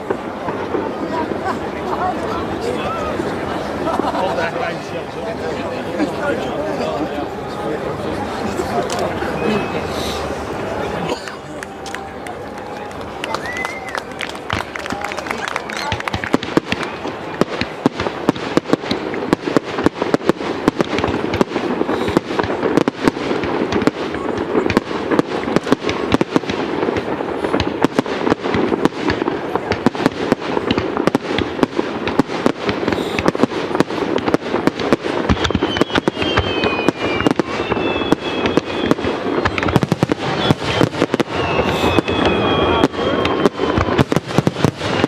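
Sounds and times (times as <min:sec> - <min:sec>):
fireworks crackling and banging: 0:00.0 - 0:45.0
high whistling fireworks: 0:00.0 - 0:45.0.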